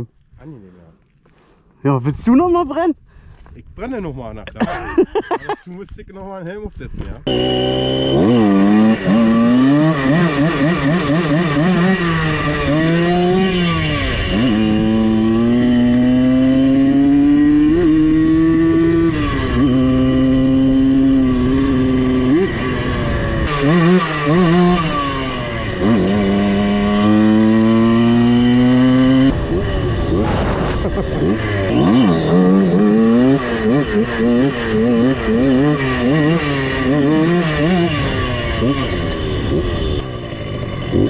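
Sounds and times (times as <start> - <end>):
two-stroke moped engine revving: 7.3 - 41.0.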